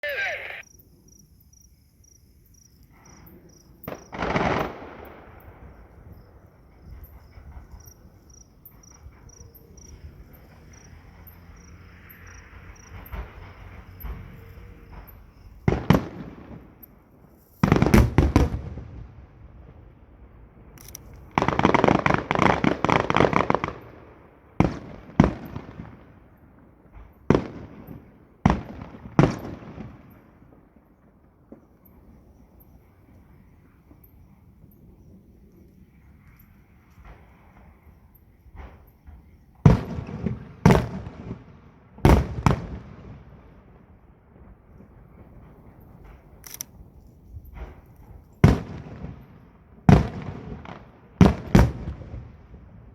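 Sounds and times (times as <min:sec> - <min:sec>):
fireworks exploding: 0:00.0 - 0:00.7, 0:02.9 - 0:10.8, 0:12.3 - 0:32.2, 0:35.8 - 0:46.8, 0:48.4 - 0:52.9
crickets chirping: 0:00.0 - 0:18.3, 0:20.3 - 0:40.7, 0:44.0 - 0:49.8.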